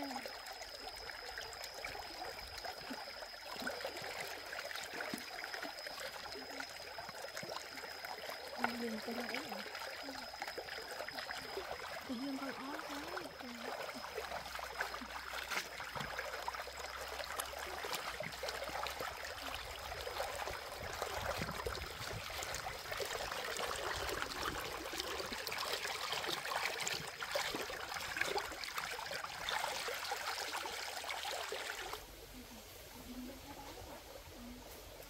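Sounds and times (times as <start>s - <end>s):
water splashing: 0.0s - 32.1s
stream water flowing: 0.0s - 35.0s.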